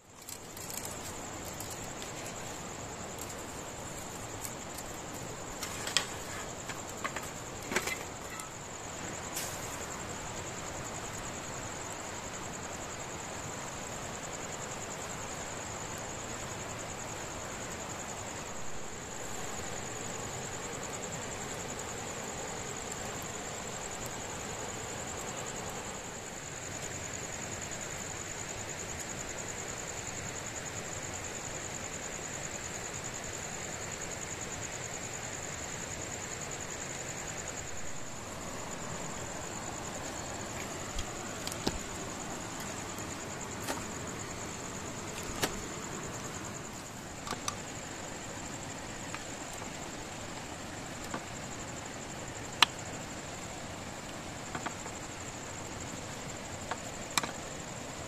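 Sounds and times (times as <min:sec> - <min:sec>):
night insects chirring: 0:00.0 - 0:58.0
soft background hiss: 0:00.0 - 0:58.0.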